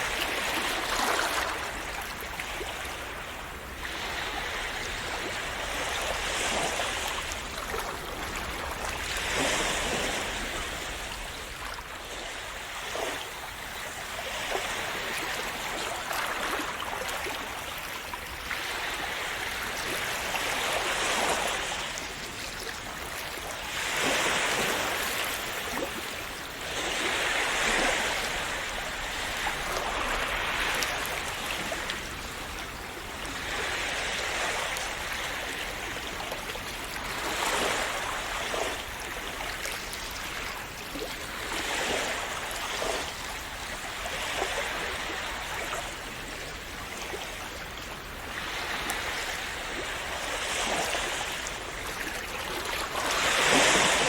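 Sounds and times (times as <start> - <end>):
sea waves washing in: 0.0 - 54.0.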